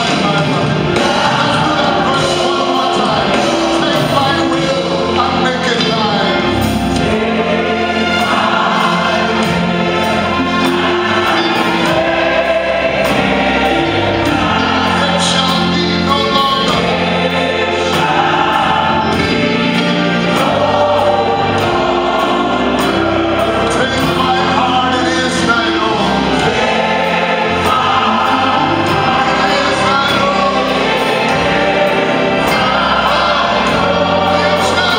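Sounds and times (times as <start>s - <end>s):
choir singing a hymn: 0.0s - 34.9s
instrumental accompaniment with beat: 0.0s - 34.9s.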